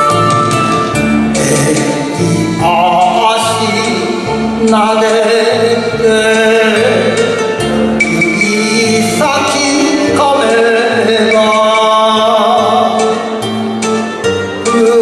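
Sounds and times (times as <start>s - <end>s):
instrumental accompaniment: 0.0s - 15.0s
man singing: 1.2s - 13.5s, 14.6s - 15.0s.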